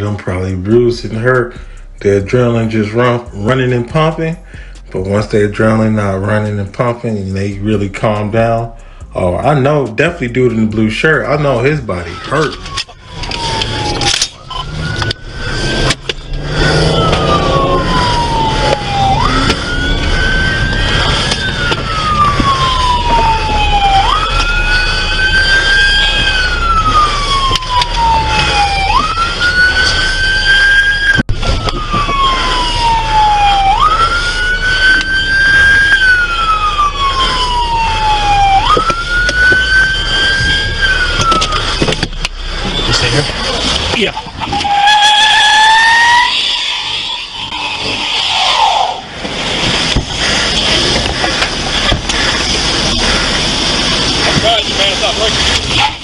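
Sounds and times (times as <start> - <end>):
car engine and road noise: 0.0 - 56.0
police siren wailing: 0.0 - 56.0.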